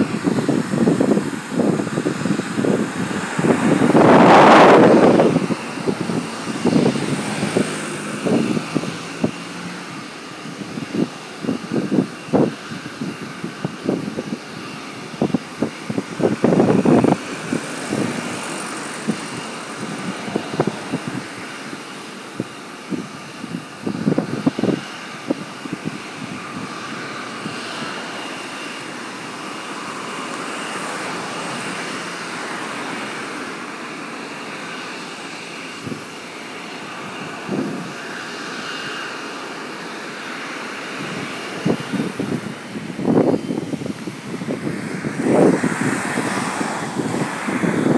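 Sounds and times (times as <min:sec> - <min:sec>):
wind buffeting microphone: 0:00.0 - 0:39.0, 0:40.6 - 0:47.9
distant jet airliner whine: 0:00.0 - 0:47.9.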